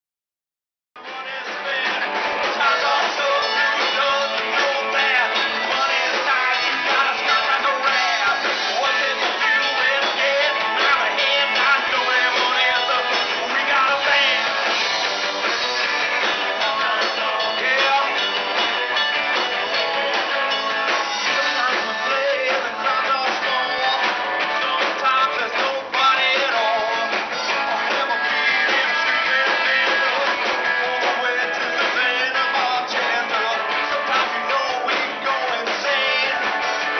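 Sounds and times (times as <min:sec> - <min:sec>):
person singing through a pa: 0:01.0 - 0:14.6, 0:16.6 - 0:18.2, 0:19.8 - 0:36.6
drum kit: 0:01.0 - 0:36.9
electric guitars: 0:01.0 - 0:36.9.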